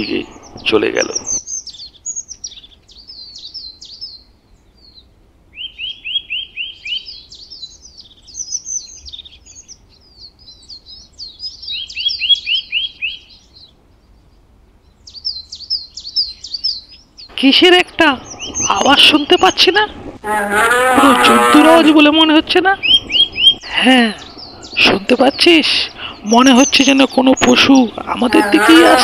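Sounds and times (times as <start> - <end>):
small songbirds chirping: 0.0 - 20.2, 20.8 - 29.0.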